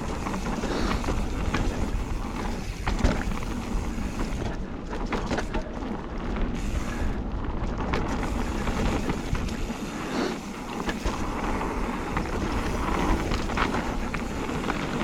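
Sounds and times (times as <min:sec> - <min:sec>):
bike clicks and rattles: 0:00.0 - 0:15.0
bike tyres rolling on dirt: 0:00.0 - 0:15.0.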